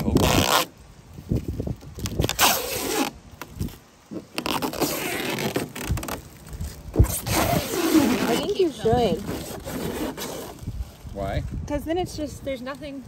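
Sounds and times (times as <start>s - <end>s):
rustling and scraping: 0.0s - 11.7s.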